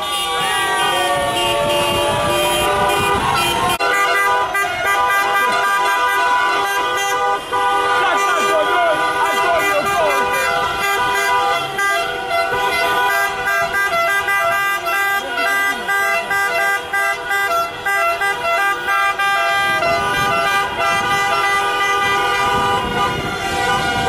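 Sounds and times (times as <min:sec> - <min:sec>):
car horns honking: 0:00.0 - 0:24.0.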